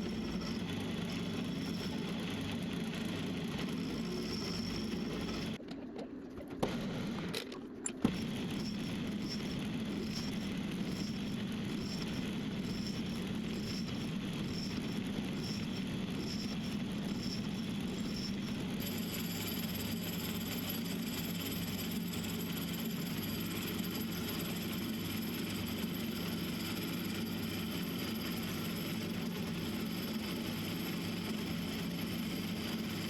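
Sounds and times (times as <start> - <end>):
metal lathe running: 0.0 - 5.6, 8.1 - 33.0.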